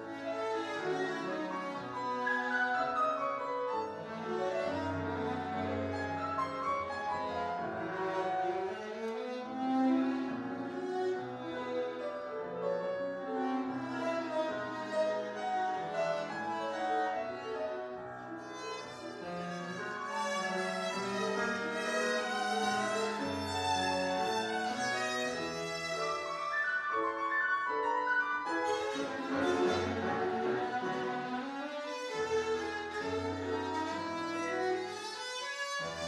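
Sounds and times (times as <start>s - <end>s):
piano accompaniment: 0.0s - 36.0s
viola bowed melody: 0.0s - 36.0s.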